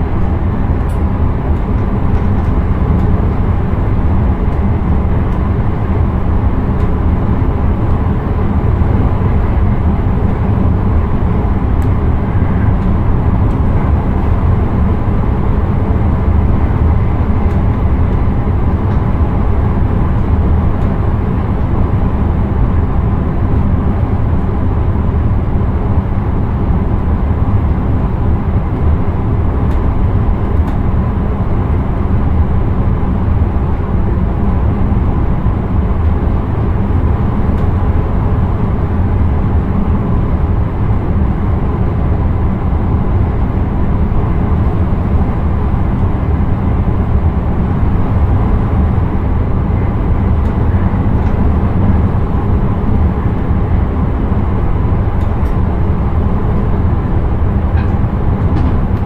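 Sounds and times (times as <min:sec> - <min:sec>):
train rumbling on track: 0:00.0 - 0:59.0.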